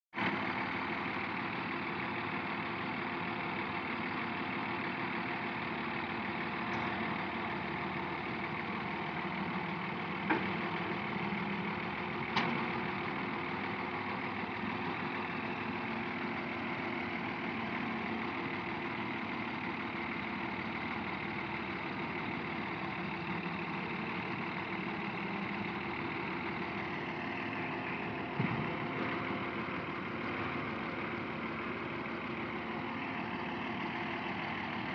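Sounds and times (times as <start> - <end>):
diesel engines running: 0.2 - 34.9.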